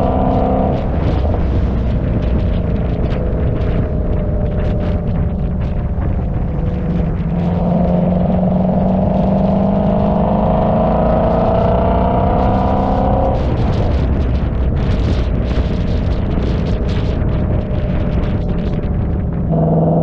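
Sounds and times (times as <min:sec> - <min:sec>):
road and wind rumble: 0:00.0 - 0:20.0.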